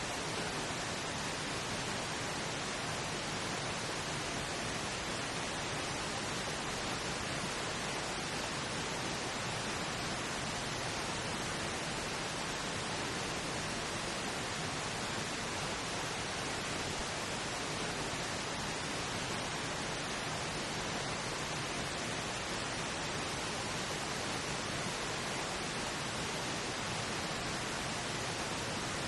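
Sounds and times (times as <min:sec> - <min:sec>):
steady pink noise hiss: 0:00.0 - 0:29.0.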